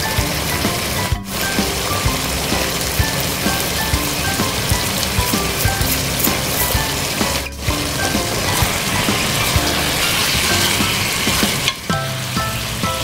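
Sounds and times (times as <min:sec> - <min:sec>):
chicken sizzling in sauce: 0:00.0 - 0:13.0
soft background music: 0:00.0 - 0:13.0
wooden spatula stirring: 0:00.2 - 0:12.0.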